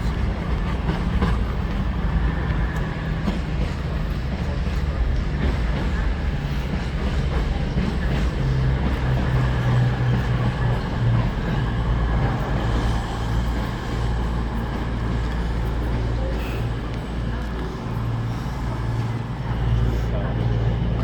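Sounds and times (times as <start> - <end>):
train engine droning: 0.0 - 21.0.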